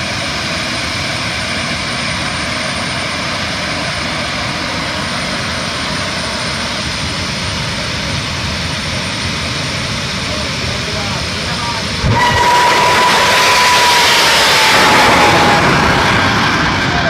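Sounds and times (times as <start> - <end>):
jet engine running loud: 0.0 - 17.0.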